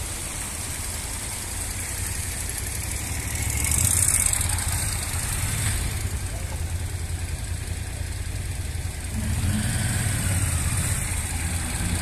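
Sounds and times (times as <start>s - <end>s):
military vehicle engines passing: 0.0s - 12.0s.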